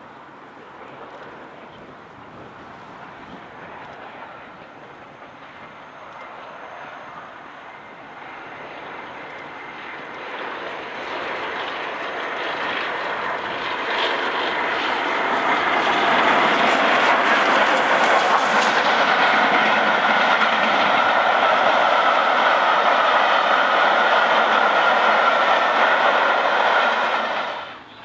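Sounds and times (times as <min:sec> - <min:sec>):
steam locomotive approaching: 0:00.0 - 0:28.0.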